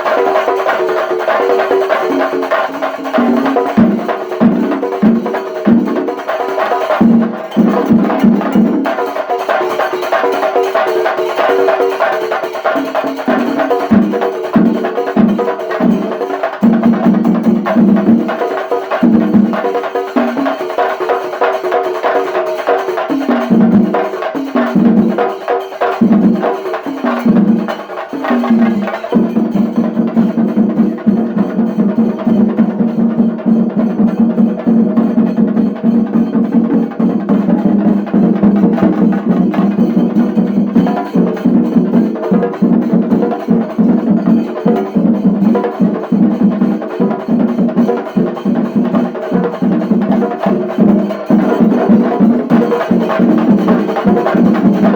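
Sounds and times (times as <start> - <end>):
drums beaten with sticks: 0.0 - 54.9.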